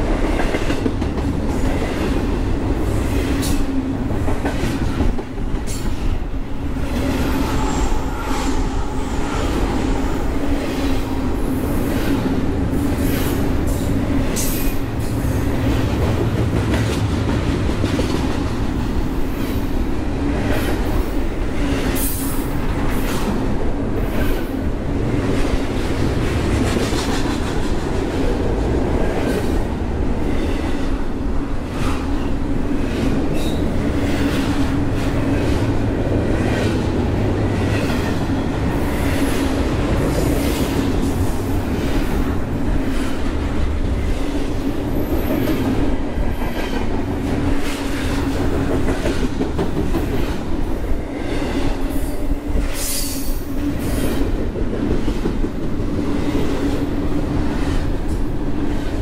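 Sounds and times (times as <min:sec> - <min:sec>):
steel wheels rumbling on rail: 0:00.0 - 0:59.0
train cars clacking and clanking: 0:00.0 - 0:59.0.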